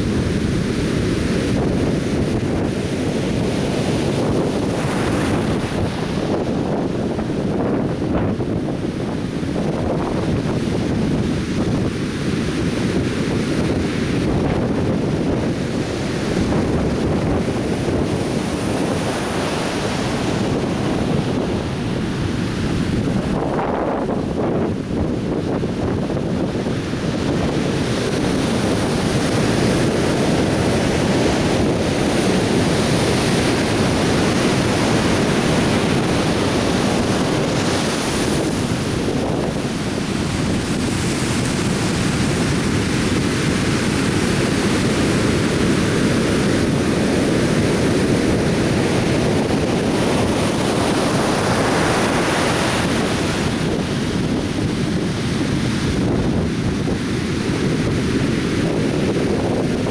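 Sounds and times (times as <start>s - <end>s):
surf breaking on shore: 0.0s - 59.9s
wind buffeting microphone: 0.0s - 59.9s.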